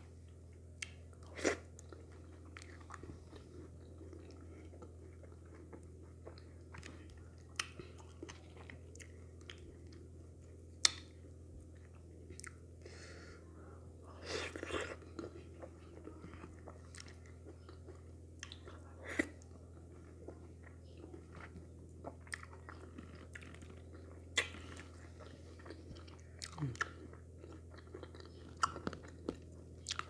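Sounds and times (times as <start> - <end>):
steady low hum: 0.0 - 30.0
chewing and biting food: 0.7 - 12.6, 14.4 - 30.0.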